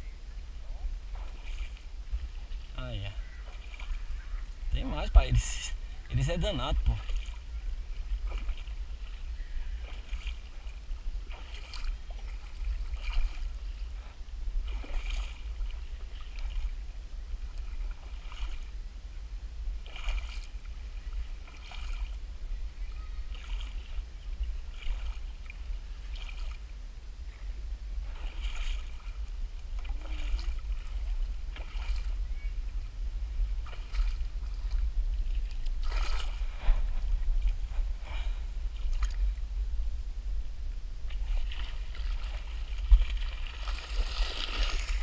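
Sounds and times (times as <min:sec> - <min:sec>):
steady low rumble: 0:00.0 - 0:45.0
wading water sloshing: 0:00.0 - 0:45.0.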